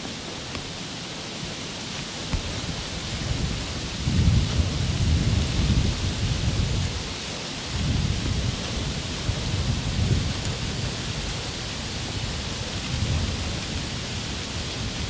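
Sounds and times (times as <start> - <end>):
steady hiss: 0.0 - 15.0
wind buffeting microphone: 2.1 - 15.0.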